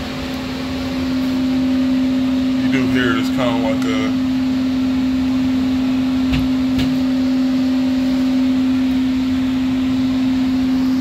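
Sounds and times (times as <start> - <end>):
blower humming: 0.0 - 11.0.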